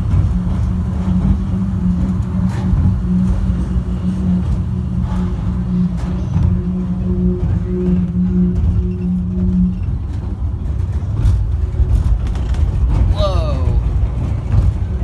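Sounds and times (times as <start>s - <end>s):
train motor hum: 0.0s - 15.0s
train rumbling: 0.0s - 15.0s.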